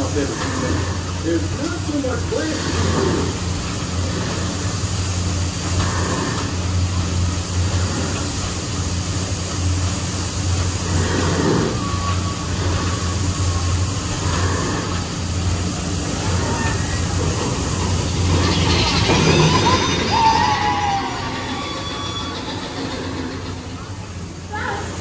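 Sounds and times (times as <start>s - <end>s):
boat machinery humming: 0.0s - 25.0s.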